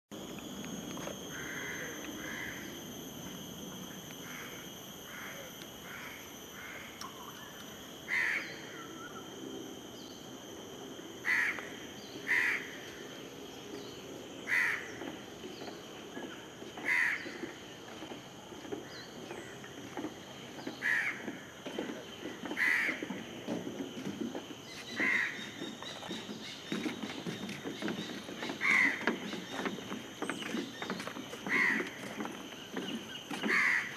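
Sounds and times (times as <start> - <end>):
high-pitched drone: 0.1 - 33.9.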